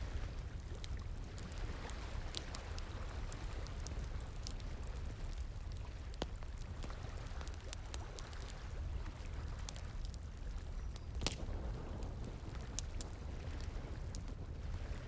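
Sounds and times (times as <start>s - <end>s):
campfire crackling: 0.1s - 14.7s.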